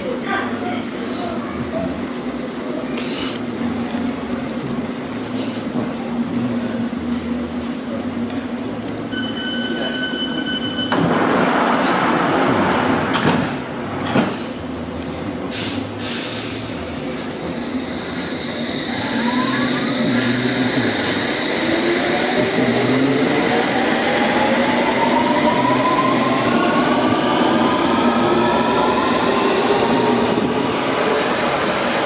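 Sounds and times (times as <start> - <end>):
train humming at platform: 0.0 - 32.0.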